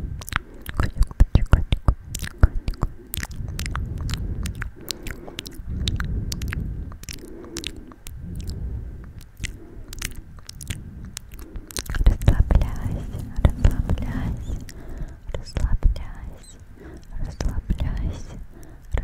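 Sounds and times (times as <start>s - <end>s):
soft low mouth sounds: 0.0s - 19.0s
wet mouth clicks and smacks: 0.2s - 19.0s.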